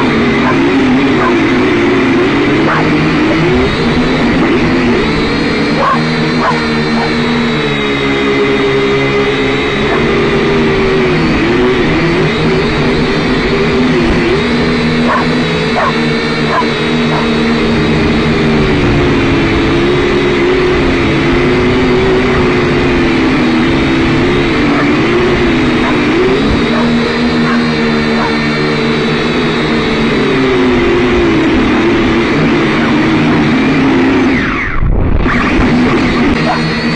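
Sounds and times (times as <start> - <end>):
quadcopter motors whining: 0.0 - 36.9.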